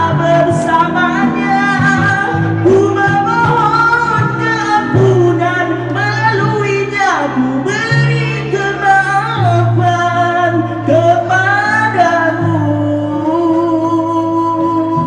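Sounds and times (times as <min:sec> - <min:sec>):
backing music with bass line: 0:00.0 - 0:15.0
man singing into a microphone: 0:00.0 - 0:15.0.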